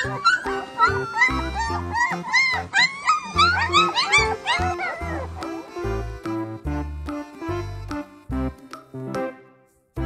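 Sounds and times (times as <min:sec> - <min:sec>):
light children's tune: 0:00.0 - 0:10.0.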